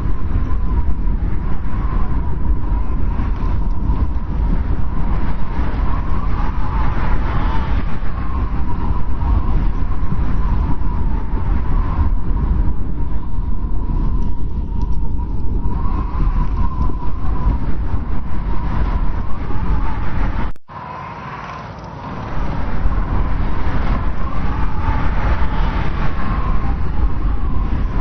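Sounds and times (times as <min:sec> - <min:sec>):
deep wind rumble: 0:00.0 - 0:28.0
thin wind whistling: 0:00.0 - 0:28.0.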